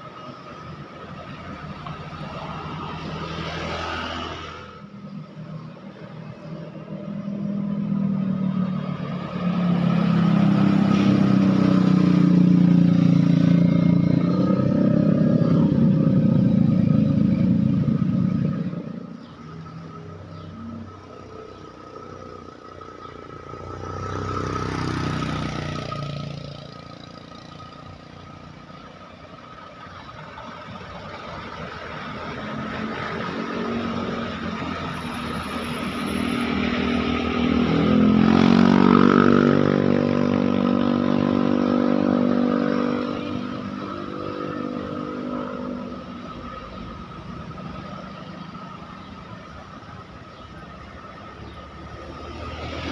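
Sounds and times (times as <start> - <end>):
traffic: 0.0 - 52.9
vehicle passing: 0.8 - 52.9
large vehicle engine passing: 1.3 - 5.7, 6.5 - 28.8, 29.5 - 52.9.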